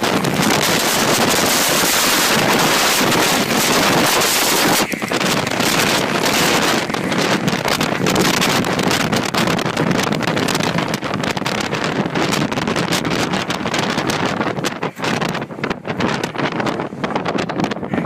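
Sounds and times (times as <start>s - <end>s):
jet engine blast: 0.0s - 18.0s
wind buffeting on microphone: 0.0s - 18.0s.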